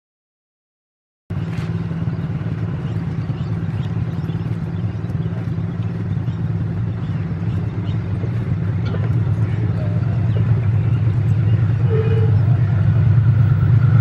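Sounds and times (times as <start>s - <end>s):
locomotive engine droning: 1.3s - 14.0s.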